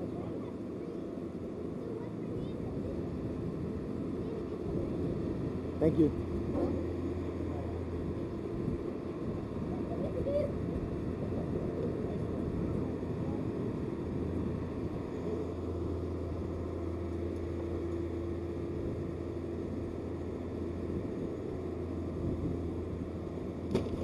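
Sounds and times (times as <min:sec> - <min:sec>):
faint hum: 0:00.0 - 0:24.0
low engine rumble: 0:00.0 - 0:24.0.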